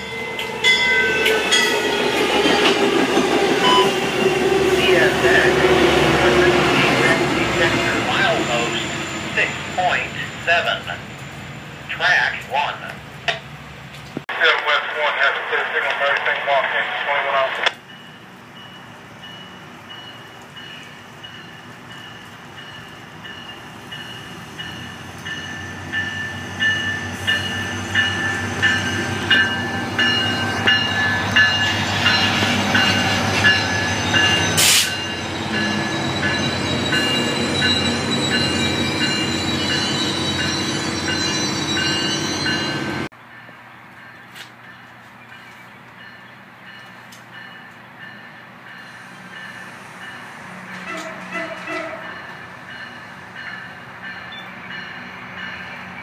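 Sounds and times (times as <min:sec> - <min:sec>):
train passing: 0:00.0 - 0:56.0.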